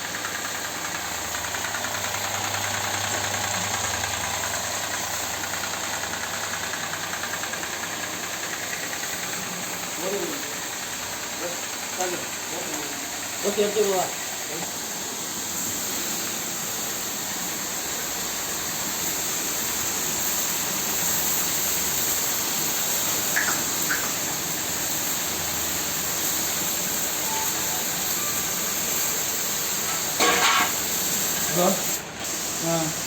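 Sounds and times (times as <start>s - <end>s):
pressure washer spraying water: 0.0s - 33.0s.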